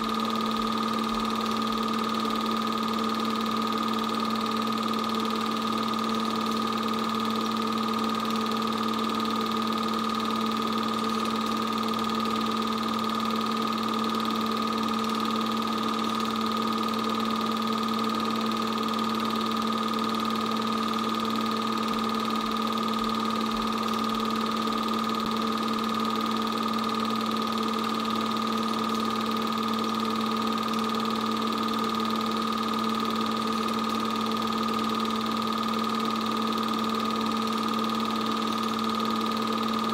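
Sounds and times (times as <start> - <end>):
film projector motor hum: 0.0 - 39.9.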